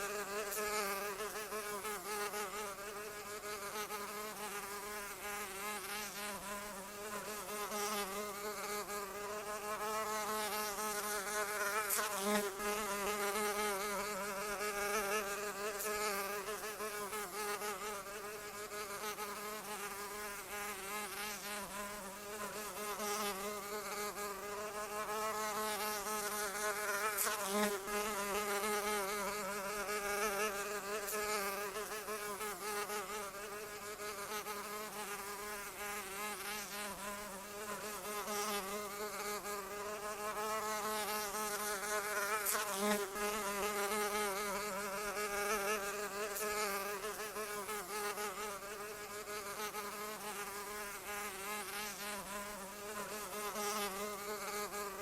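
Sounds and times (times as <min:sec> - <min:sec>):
insect wings buzzing: 0:00.0 - 0:55.0.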